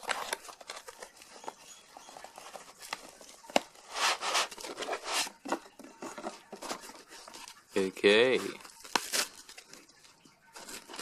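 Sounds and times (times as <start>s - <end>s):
cardboard rustling and tearing: 0.0s - 9.9s, 10.5s - 11.0s.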